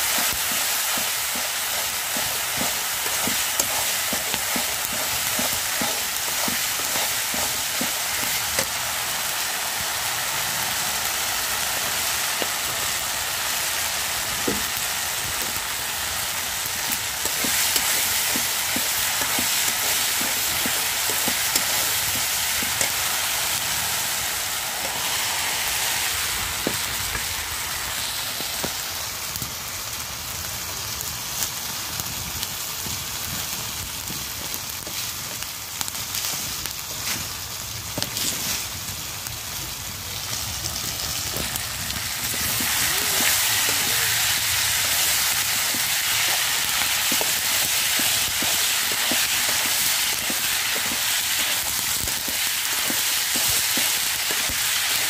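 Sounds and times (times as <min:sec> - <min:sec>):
vegetables frying in oil: 0:00.0 - 0:55.0.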